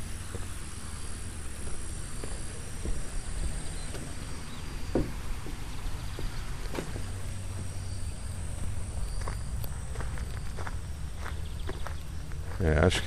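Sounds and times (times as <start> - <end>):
high insect drone: 0.0 - 13.0
footsteps on wooden footbridge: 0.2 - 7.8, 8.5 - 13.0.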